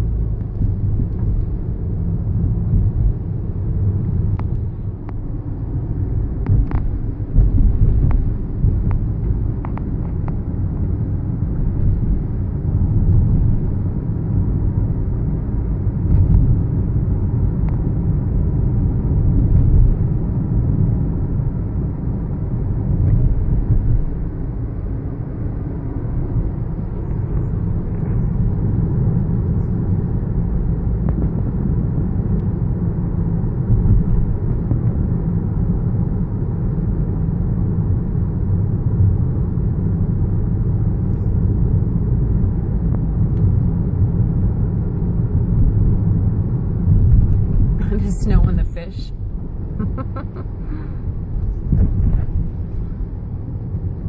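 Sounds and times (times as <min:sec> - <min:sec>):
car interior road rumble: 0:00.0 - 0:54.0.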